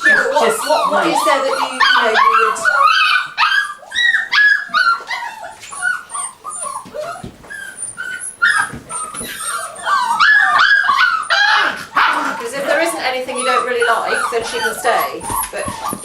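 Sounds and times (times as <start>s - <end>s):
puppies whimpering and yipping: 0.0s - 16.0s.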